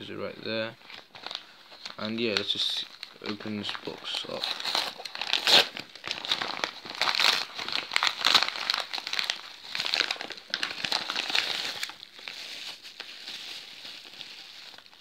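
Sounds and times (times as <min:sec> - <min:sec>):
paper and bubble wrap crinkling: 0:00.8 - 0:15.0.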